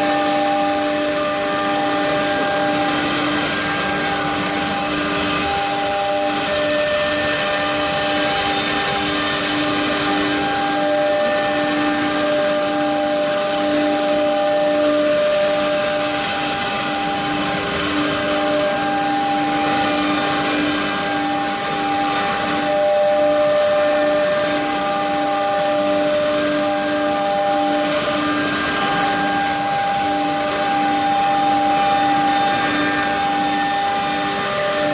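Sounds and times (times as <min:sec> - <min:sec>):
dust extractor rushing: 0:00.0 - 0:34.9
router whine: 0:00.0 - 0:34.9.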